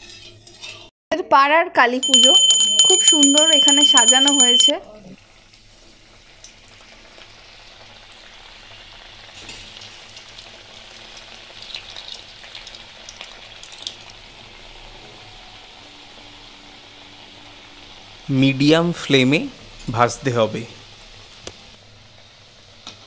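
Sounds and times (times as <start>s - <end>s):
dumplings deep-frying in oil: 0.0s - 1.6s, 4.7s - 23.0s.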